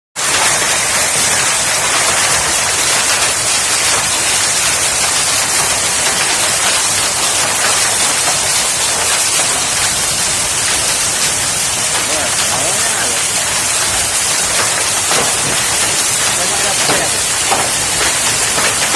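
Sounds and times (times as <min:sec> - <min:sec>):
heavy rain and hail: 0:00.2 - 0:18.9.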